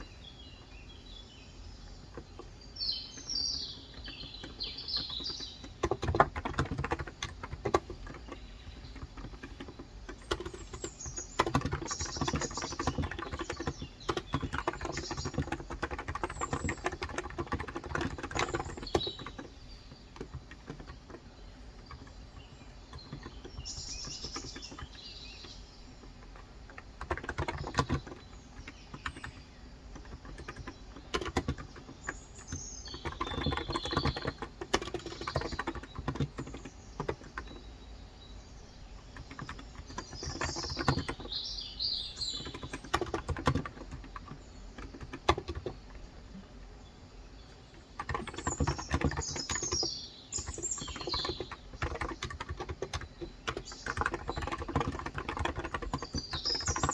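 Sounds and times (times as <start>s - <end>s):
birds chirping: 0.0s - 56.9s
keyboard typing: 3.1s - 37.7s, 39.0s - 41.4s, 42.1s - 46.3s, 47.7s - 56.9s.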